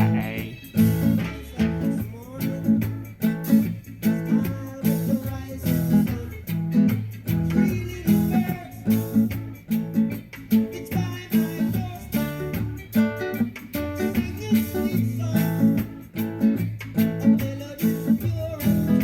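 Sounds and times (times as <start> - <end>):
guitar strumming: 0.0 - 19.0.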